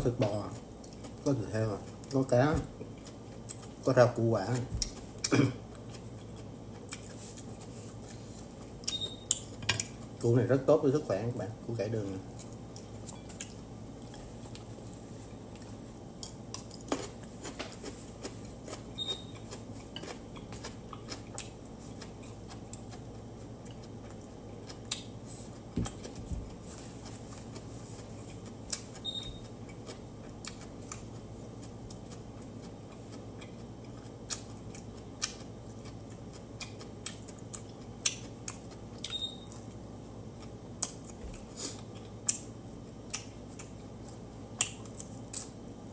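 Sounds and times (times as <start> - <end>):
low steady hum: 0.0 - 45.9
chewing: 0.2 - 3.9, 4.5 - 10.2, 12.3 - 45.6.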